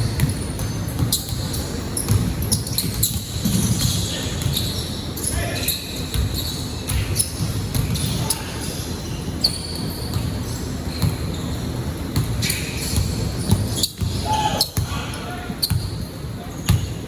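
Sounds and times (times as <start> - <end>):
ball bouncing on hard court: 0.0 - 4.8, 6.0 - 8.4, 9.7 - 17.0.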